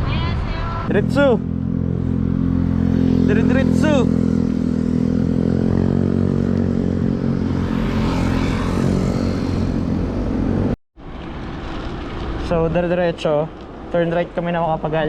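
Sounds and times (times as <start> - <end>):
road noise: 0.0 - 15.0
traffic noise: 0.0 - 15.0.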